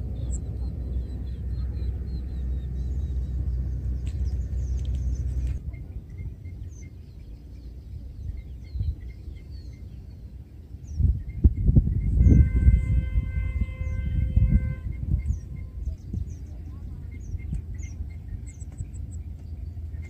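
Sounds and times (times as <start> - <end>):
light wind noise: 0.0 - 20.0
loud low buffets: 0.0 - 20.0
low outdoor rumble: 0.0 - 20.0
small birds chirping: 0.0 - 20.0.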